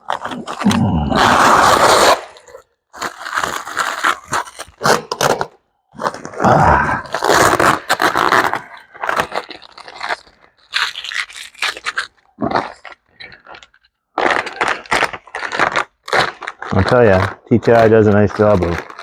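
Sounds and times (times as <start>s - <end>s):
packaging tearing and crunching: 0.0s - 19.0s.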